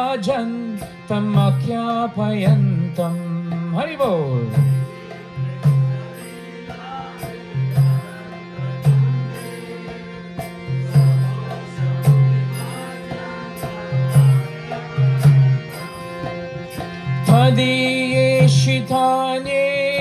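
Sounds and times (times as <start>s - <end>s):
harmonium playing: 0.0s - 20.0s
mridanga drum strokes: 0.7s - 20.0s.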